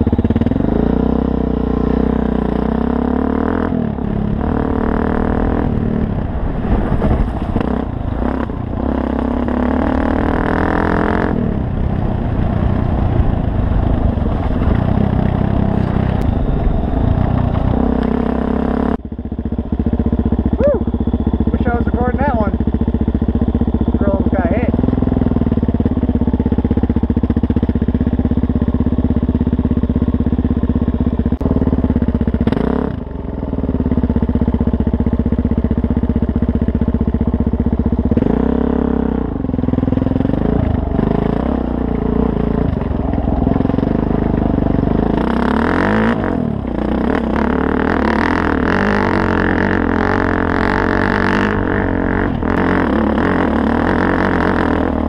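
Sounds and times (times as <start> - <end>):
motorcycle engine running: 0.0 - 55.0
rattle over rocky dirt track: 0.0 - 55.0.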